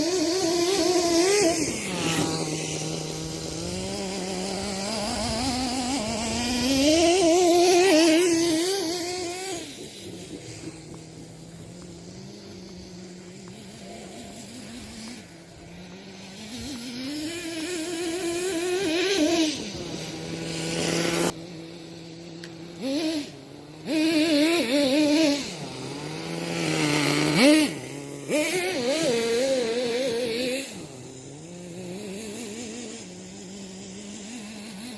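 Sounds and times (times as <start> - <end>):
small model engine revving: 0.0 - 34.9.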